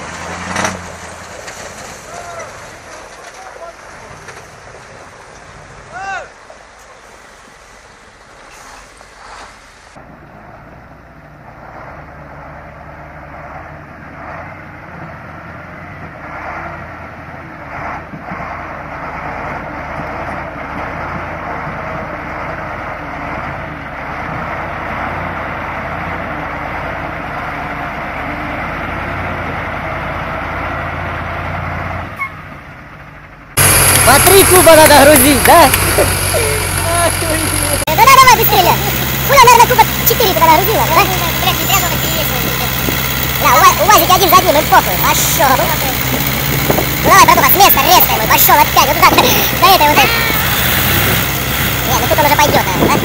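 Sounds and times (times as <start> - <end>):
truck diesel engine under load: 0.0 - 53.0
truck wading through water: 0.0 - 53.0.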